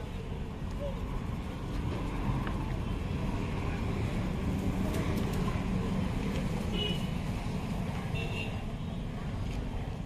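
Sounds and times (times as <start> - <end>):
busy street rumble: 0.0 - 10.0.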